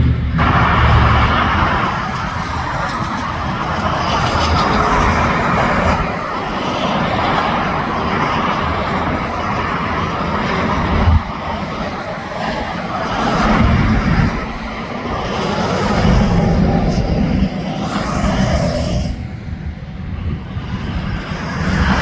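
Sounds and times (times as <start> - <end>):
heavy vehicle passing: 0.0 - 20.3
highway traffic roar: 0.0 - 22.0.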